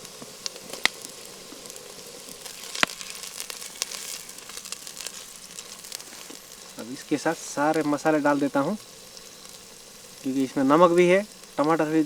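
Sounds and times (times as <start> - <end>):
sharp pops and cracks: 0.0 - 10.5
food sizzling in hot oil: 0.0 - 12.0.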